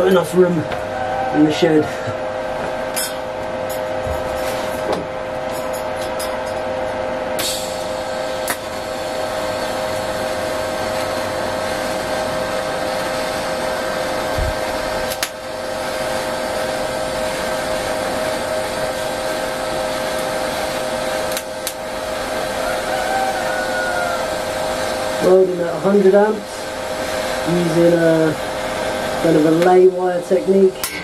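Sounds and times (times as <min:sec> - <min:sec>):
welding arc hiss and whine: 0:00.0 - 0:31.0.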